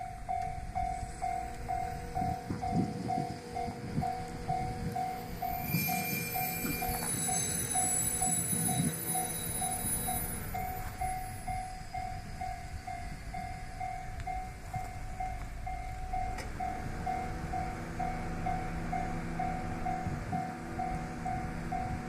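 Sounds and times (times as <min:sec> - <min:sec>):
diesel railcar engine running: 0:00.0 - 0:22.0
level-crossing warning bell: 0:00.0 - 0:22.0.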